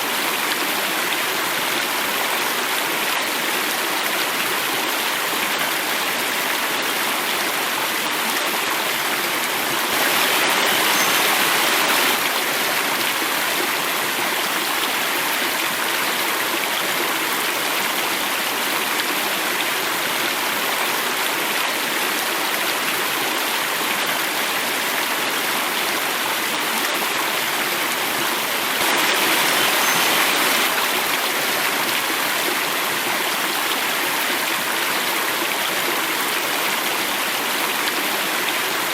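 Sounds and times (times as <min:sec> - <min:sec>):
water flowing in a cascade: 0:00.0 - 0:38.9.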